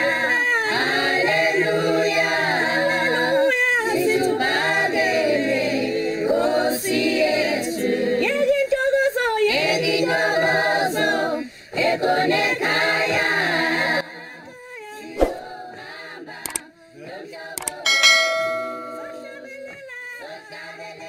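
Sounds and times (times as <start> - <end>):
choir singing: 0.0 - 8.3, 9.4 - 16.6, 17.2 - 21.0.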